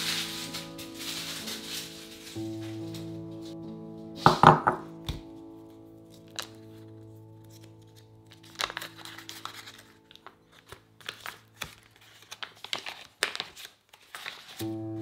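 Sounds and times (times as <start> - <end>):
paper wrapper crinkling: 0.0 - 3.5, 5.1 - 14.6
soft background music: 0.0 - 13.0, 14.2 - 15.0.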